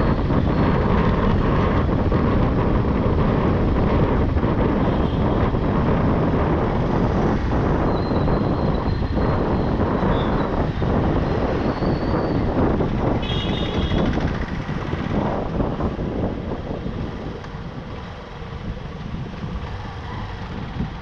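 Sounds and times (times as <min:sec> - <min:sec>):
motorcycle engine rumble: 0:00.0 - 0:21.0
road noise: 0:00.0 - 0:21.0
wind on microphone: 0:00.0 - 0:21.0.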